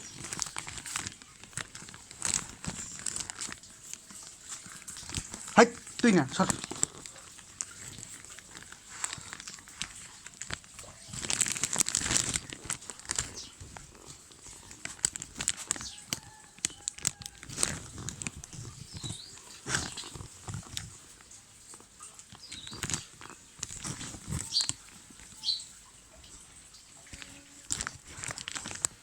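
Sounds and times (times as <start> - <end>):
rustling and crinkling: 0.0 - 29.0.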